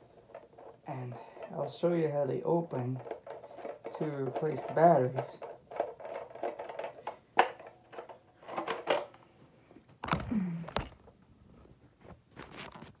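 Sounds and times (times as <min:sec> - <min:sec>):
handling clicks and knocks: 0:00.0 - 0:09.2, 0:09.9 - 0:11.2.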